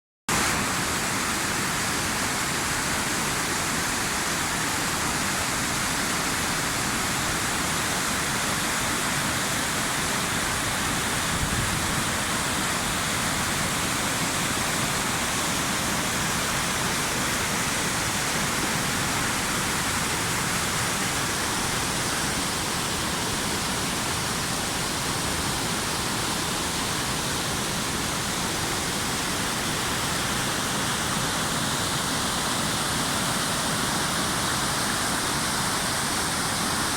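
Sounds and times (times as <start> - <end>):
waterfall rushing: 0.3 - 36.9.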